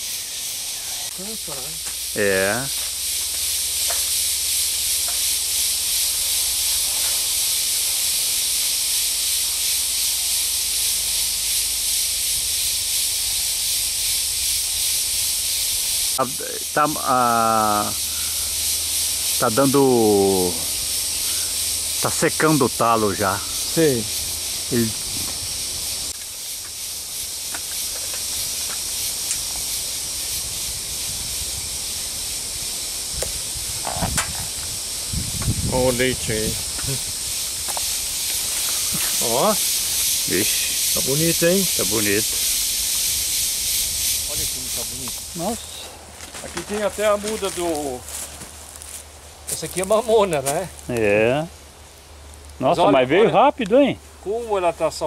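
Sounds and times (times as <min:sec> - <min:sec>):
cicadas buzzing: 0:00.0 - 0:55.0
insects droning: 0:00.0 - 0:55.0.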